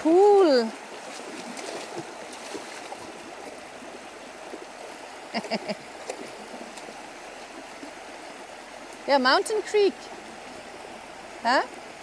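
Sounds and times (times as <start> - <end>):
creek trickling over stones: 0.0 - 12.0
faint splashes: 0.0 - 12.0.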